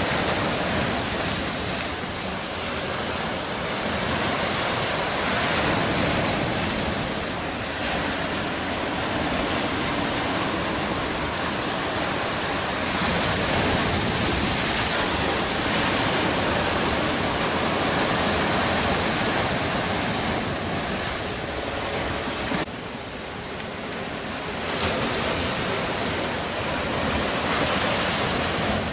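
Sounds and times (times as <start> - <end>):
waves breaking on rocky shore: 0.0 - 28.9.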